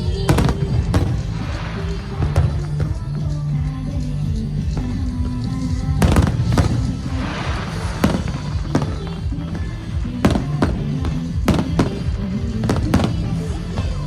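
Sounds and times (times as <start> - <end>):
fireworks bangs: 0.0 - 3.4, 4.5 - 14.0
fireworks crackling: 0.0 - 14.0
music: 0.0 - 14.0.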